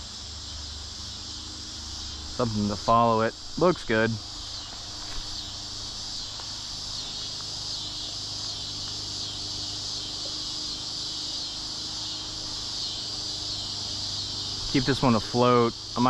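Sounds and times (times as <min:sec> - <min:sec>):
faint low hum: 0:00.0 - 0:16.0
insects buzzing: 0:00.0 - 0:16.0.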